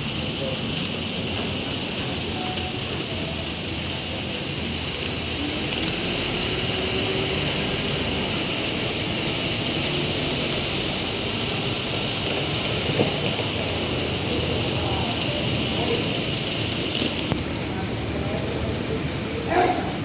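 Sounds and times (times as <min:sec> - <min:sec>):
city traffic rumble: 0:00.0 - 0:20.0
rain hissing on wet pavement: 0:00.0 - 0:20.0.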